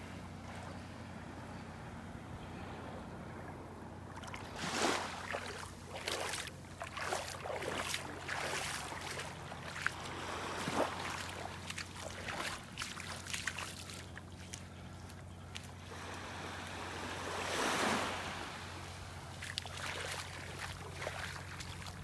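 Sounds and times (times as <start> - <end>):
shallow water lapping on sand: 3.4 - 22.0.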